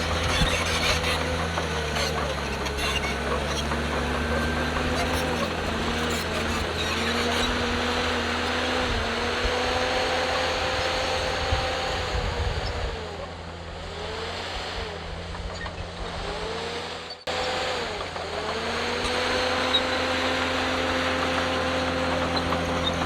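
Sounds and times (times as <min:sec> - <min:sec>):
diesel machine engine under load: 0:00.0 - 0:23.0.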